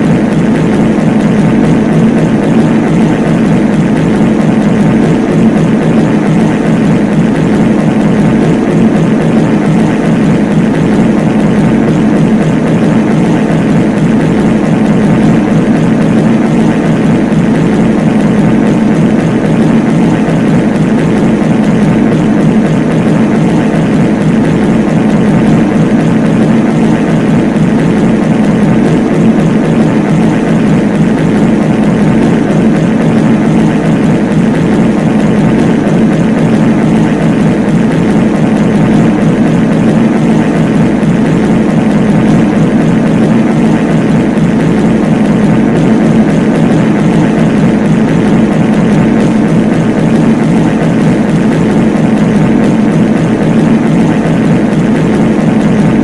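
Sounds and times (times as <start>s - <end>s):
layered reverb fart rumble: 0.0s - 56.0s.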